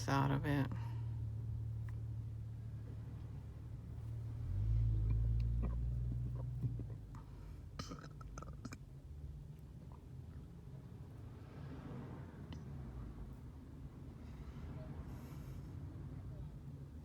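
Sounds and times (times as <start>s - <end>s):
low vehicle rumble inside car: 0.0s - 17.0s.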